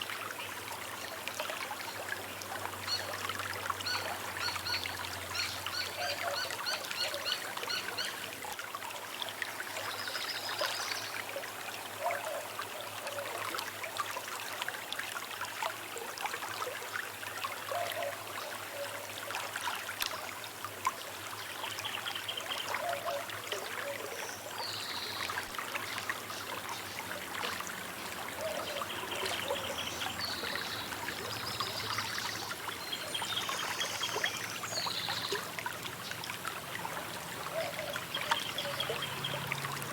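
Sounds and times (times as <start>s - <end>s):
river trickling: 0.0s - 39.9s.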